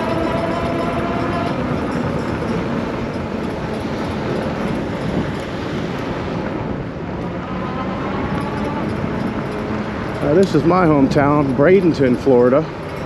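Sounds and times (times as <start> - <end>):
road noise: 0.0 - 13.0
rushing wind: 0.0 - 13.0.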